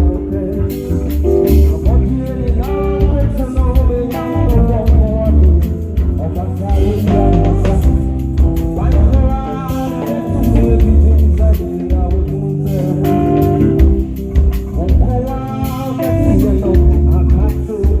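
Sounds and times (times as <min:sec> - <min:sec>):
live rock band with singer: 0:00.0 - 0:18.0.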